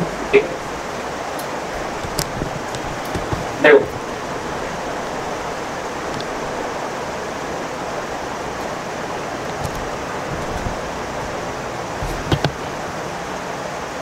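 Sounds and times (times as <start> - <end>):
room noise hiss: 0.0 - 14.0
faint clicks: 1.4 - 12.8.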